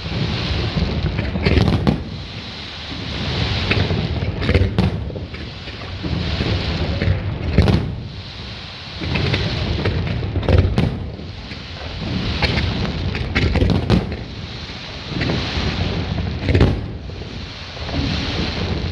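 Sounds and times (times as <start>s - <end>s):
echoing rumble: 0.0s - 18.9s
fireworks bangs: 0.0s - 18.9s
fireworks crackling: 0.0s - 18.9s.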